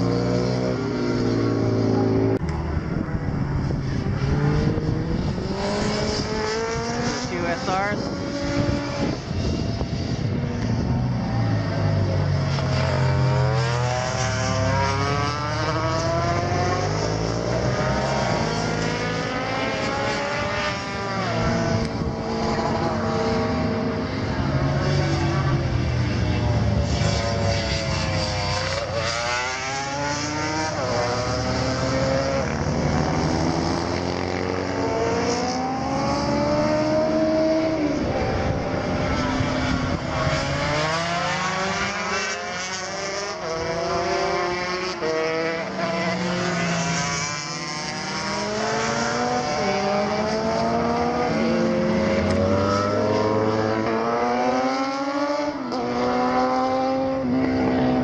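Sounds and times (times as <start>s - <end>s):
racing motorcycles revving past: 0.0s - 58.0s.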